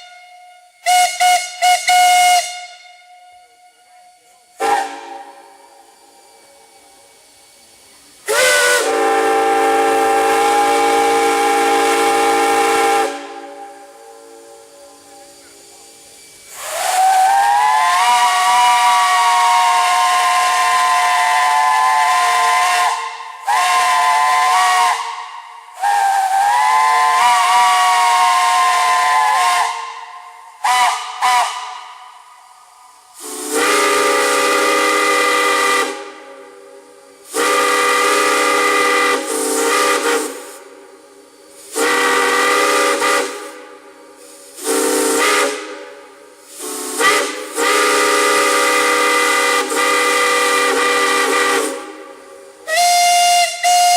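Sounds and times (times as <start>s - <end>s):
deep-toned steam whistle: 0.0s - 53.9s
high-pitched steam whistle: 0.0s - 53.9s.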